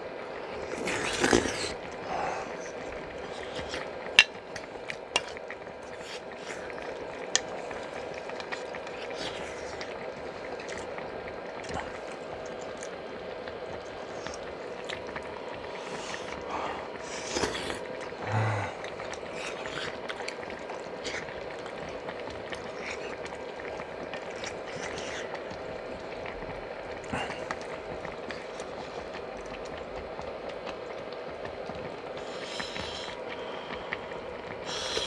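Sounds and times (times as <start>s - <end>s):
soup bubbling at rolling boil: 0.0s - 35.0s.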